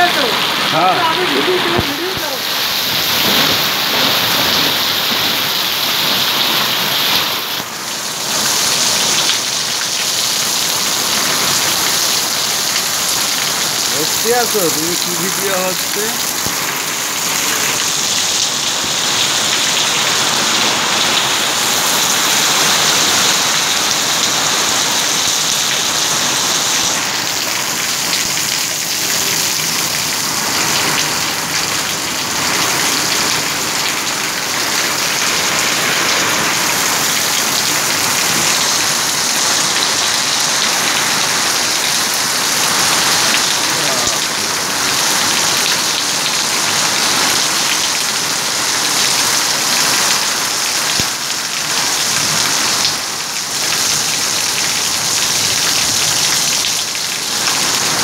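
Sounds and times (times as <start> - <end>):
heavy rain on concrete: 0.0 - 58.0.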